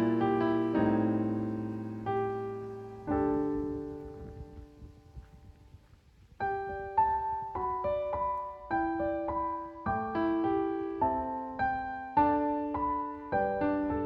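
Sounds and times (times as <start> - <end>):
gentle piano melody: 0.0 - 5.8, 6.4 - 14.0.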